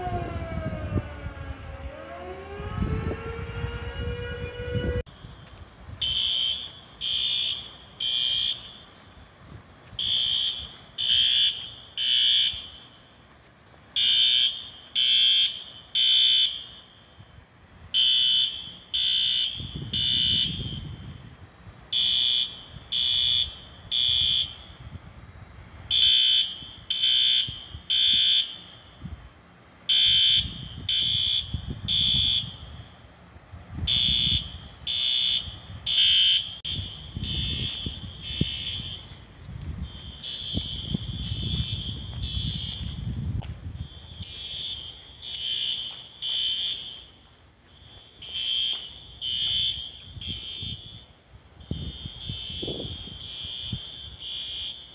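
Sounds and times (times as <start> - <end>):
fire alarm beeping: 3.0 - 9.0, 10.0 - 13.0, 14.0 - 17.2, 18.0 - 21.1, 21.9 - 24.8, 25.9 - 29.0, 29.9 - 32.9, 33.9 - 54.9.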